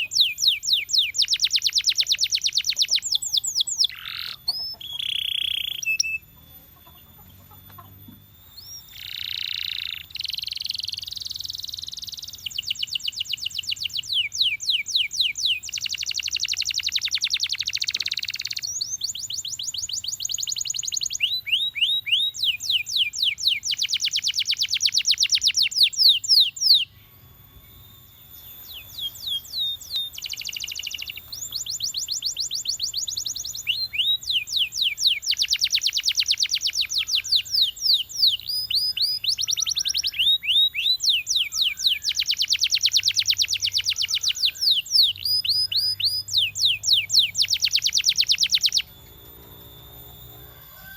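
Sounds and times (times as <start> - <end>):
canary singing in rolling trills: 0.0 - 50.9.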